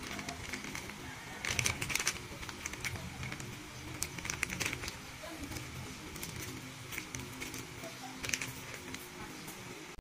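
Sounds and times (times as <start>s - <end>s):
plastic bags crinkling: 0.0s - 9.2s.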